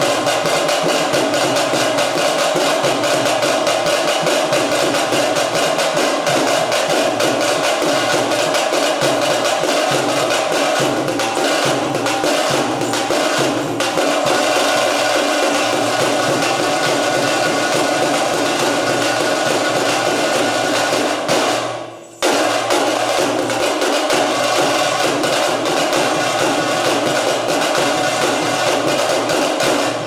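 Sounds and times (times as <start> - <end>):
fast folk drumming: 0.0 - 30.0.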